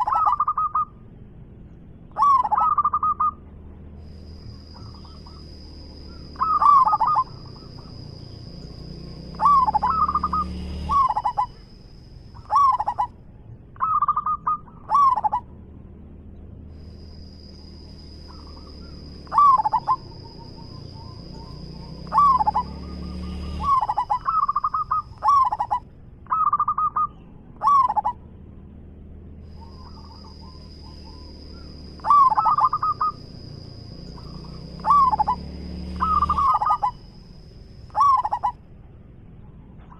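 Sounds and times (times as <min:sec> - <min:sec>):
dove cooing: 0:00.0 - 0:01.0, 0:02.1 - 0:11.7, 0:12.3 - 0:13.2, 0:13.8 - 0:15.5, 0:17.2 - 0:28.2, 0:29.5 - 0:38.6.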